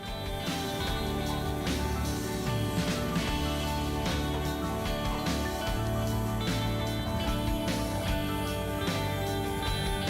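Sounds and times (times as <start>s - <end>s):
background guitar music: 0.0s - 10.0s.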